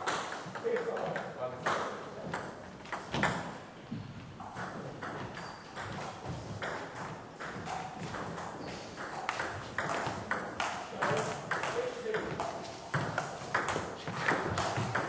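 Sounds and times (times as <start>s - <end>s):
table tennis balls bouncing: 0.0s - 15.0s.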